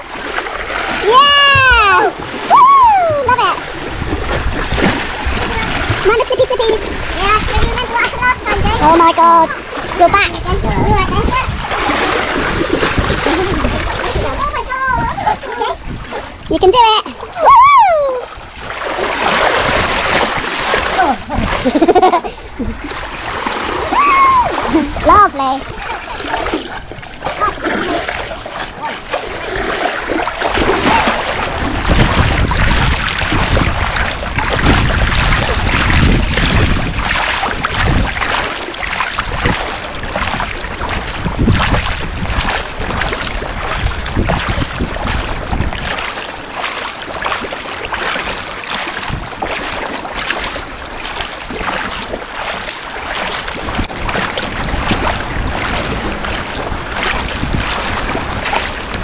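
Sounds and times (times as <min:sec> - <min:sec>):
water splashing around swimmer: 0:00.0 - 0:59.0
wind buffeting microphone: 0:00.8 - 0:59.0.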